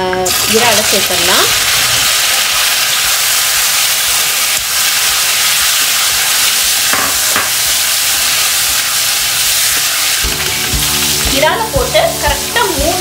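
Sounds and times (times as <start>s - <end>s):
prawns sizzling in hot oil: 0.0s - 13.0s.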